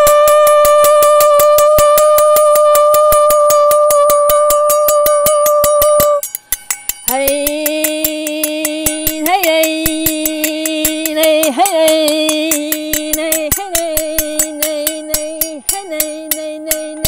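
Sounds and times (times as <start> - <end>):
person singing long tone: 0.0 - 6.3, 7.0 - 17.0.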